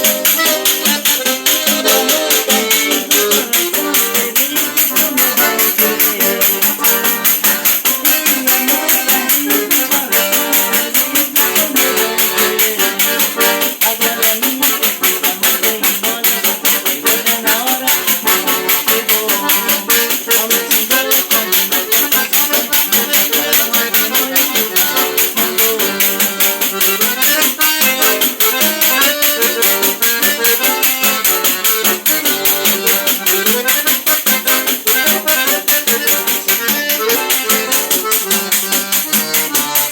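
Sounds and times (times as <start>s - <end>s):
accordion melody: 0.0s - 39.9s
frame drum jingling beat: 0.0s - 39.9s.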